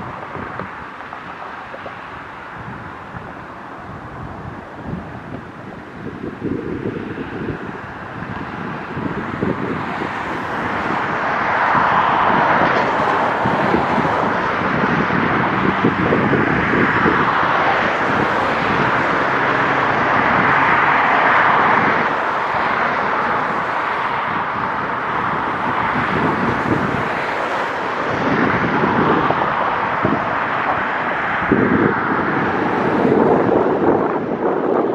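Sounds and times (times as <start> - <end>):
traffic passing: 0.0 - 34.9
wind buffeting microphone: 0.0 - 34.9.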